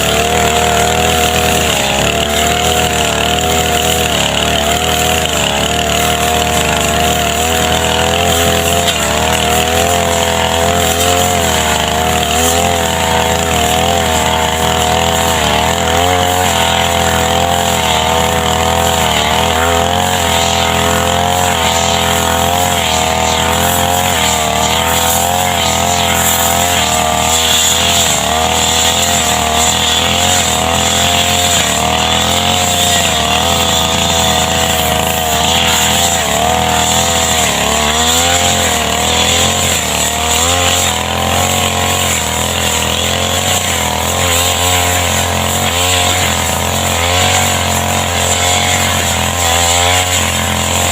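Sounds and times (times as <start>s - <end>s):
brush cutter engine at high revs: 0.0s - 50.9s.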